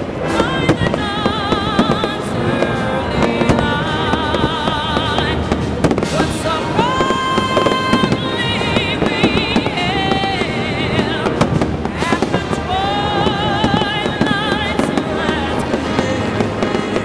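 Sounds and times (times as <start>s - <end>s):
fireworks exploding: 0.0s - 17.0s
music playing: 0.0s - 17.0s.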